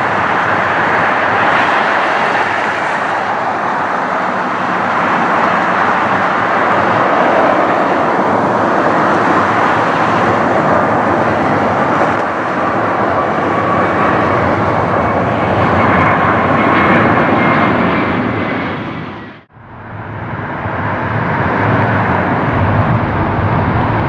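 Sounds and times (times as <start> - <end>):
jet airliner engines roaring: 0.0 - 24.0.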